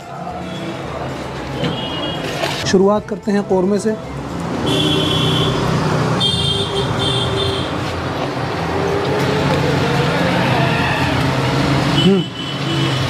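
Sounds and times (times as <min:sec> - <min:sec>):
vehicle engines running: 0:02.2 - 0:13.0.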